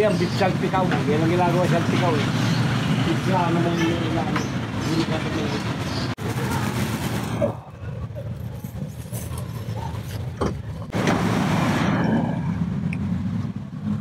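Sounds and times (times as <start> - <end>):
motor vehicles rumbling: 0.0 - 14.0.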